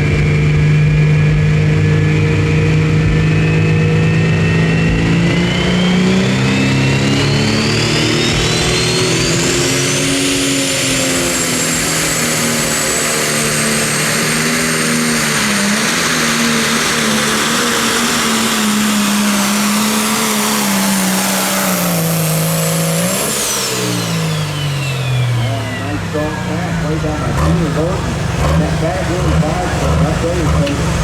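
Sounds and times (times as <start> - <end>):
diesel engine running flat out: 0.0 - 31.0
turbocharger whine: 0.0 - 31.0.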